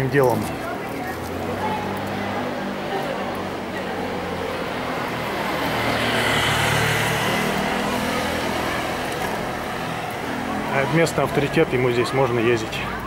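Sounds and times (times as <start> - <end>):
vehicle passing close: 0.0 - 13.0.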